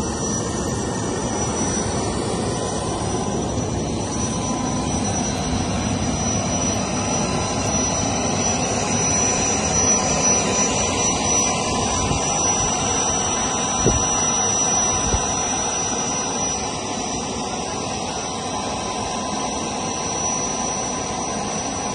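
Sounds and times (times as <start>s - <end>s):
jet engine rushing and whining: 0.0s - 21.9s.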